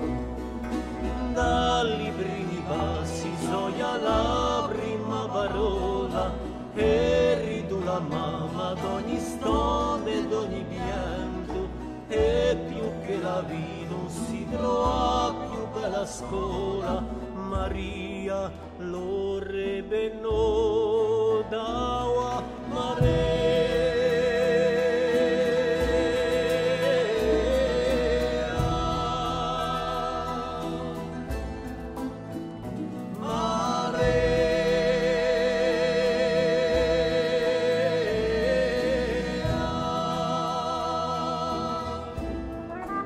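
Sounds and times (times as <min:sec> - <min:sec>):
instrumental accompaniment: 0:00.0 - 0:43.0
person singing with vibrato: 0:01.0 - 0:43.0.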